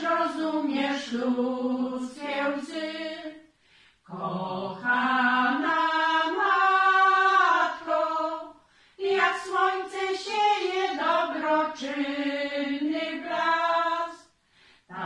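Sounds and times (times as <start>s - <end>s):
women's choir singing a cappella: 0.0s - 3.5s, 4.1s - 15.0s.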